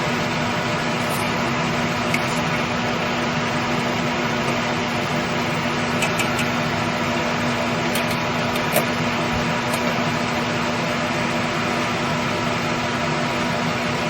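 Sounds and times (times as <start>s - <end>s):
fan whirring with low hum: 0.0s - 14.0s.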